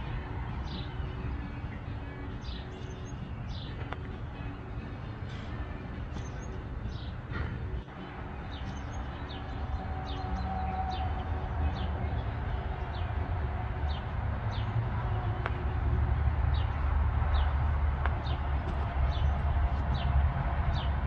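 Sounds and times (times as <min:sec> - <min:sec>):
small songbirds chirping: 0:00.0 - 0:21.0
steady low rumble: 0:00.0 - 0:21.0.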